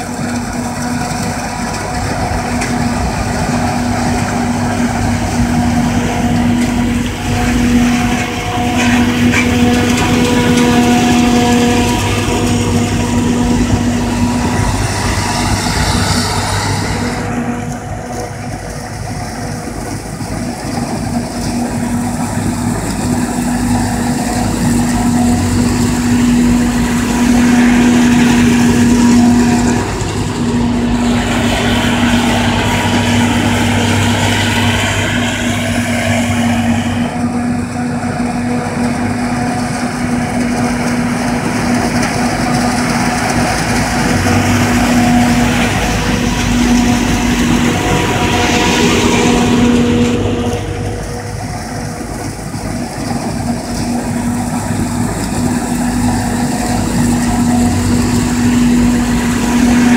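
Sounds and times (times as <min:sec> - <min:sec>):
forage harvester machinery drone: 0:00.0 - 0:59.9.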